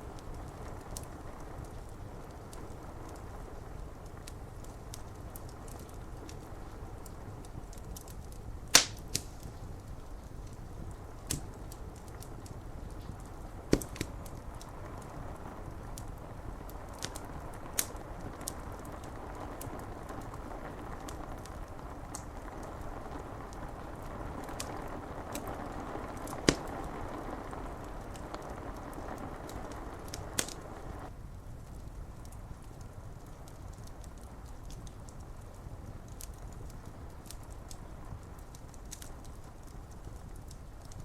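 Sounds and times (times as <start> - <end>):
rain pattering on window glass: 0.0 - 41.0
wood fire crackling: 0.0 - 41.0.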